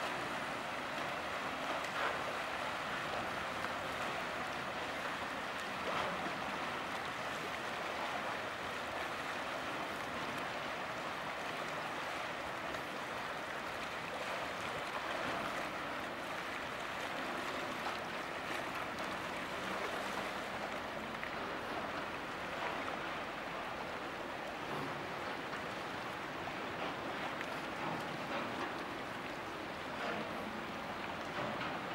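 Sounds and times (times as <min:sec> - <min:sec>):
water rushing and lapping: 0:00.0 - 0:31.9.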